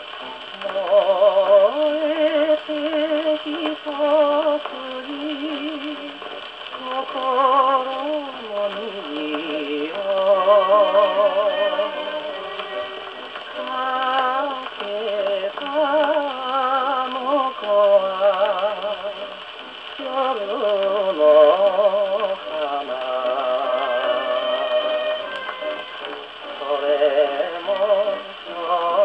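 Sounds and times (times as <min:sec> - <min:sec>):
gramophone record playing a song: 0:00.0 - 0:29.0
man singing with vibrato: 0:00.6 - 0:06.2, 0:06.8 - 0:19.4, 0:20.0 - 0:29.0.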